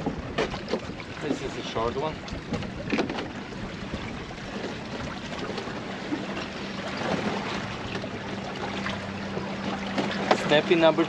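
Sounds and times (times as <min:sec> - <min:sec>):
water lapping against kayak: 0:00.0 - 0:11.0.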